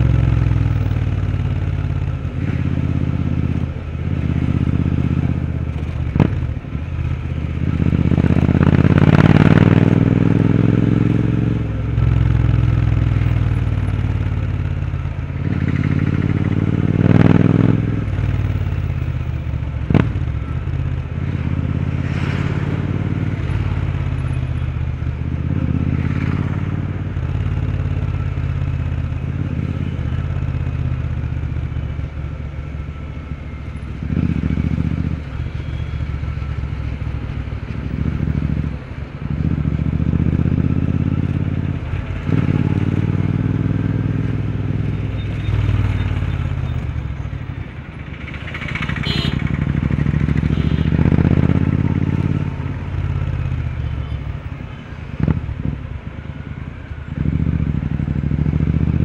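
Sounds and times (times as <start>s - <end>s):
motorcycle engine revving: 0.0s - 32.1s, 32.7s - 54.1s, 57.1s - 59.0s.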